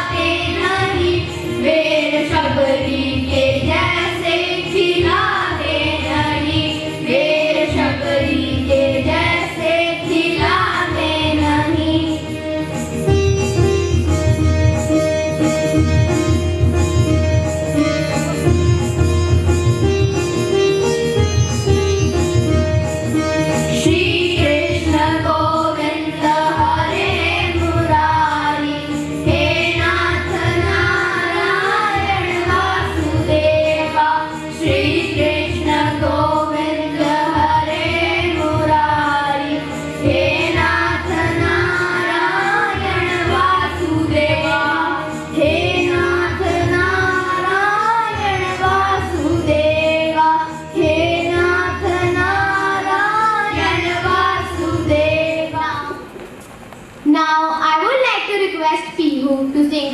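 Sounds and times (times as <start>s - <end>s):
children singing into microphones: 0.0s - 16.4s, 22.1s - 56.5s
instrumental music accompaniment: 0.0s - 57.6s.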